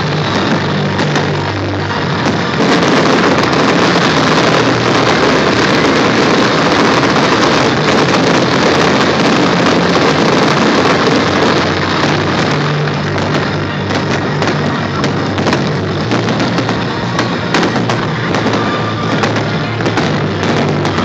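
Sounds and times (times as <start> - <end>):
fireworks crackling and booming: 0.0 - 21.0.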